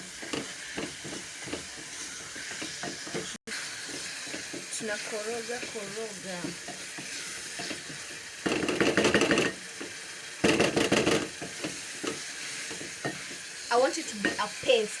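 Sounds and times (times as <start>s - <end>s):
spoon scraping and clattering pot: 0.0s - 14.6s
stew sizzling: 0.0s - 15.0s.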